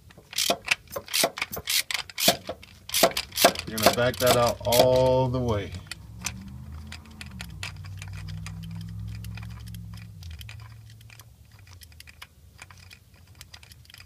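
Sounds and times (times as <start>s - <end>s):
ratchet clicking: 0.3s - 14.0s
low steady hum: 2.6s - 14.0s.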